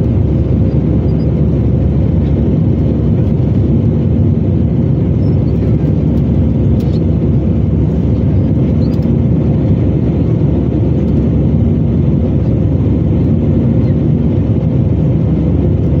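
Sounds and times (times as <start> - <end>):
jet engine cabin noise: 0.0 - 16.0.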